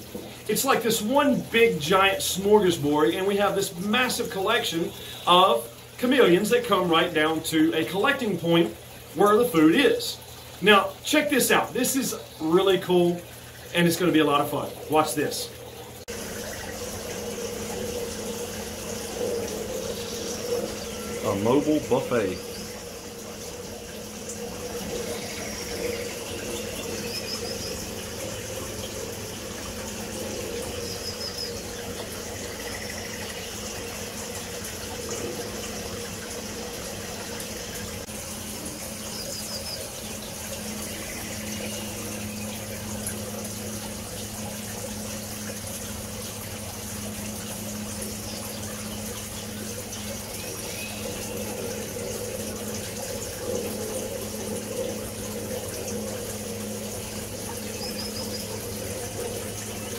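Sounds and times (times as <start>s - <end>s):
low steady hum: 0.0s - 59.9s
running water: 0.0s - 59.9s.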